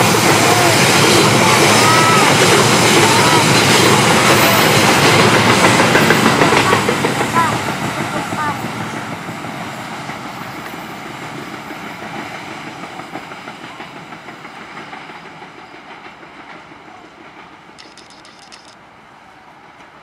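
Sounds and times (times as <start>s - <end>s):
train wheels running over rails: 0.0s - 18.8s.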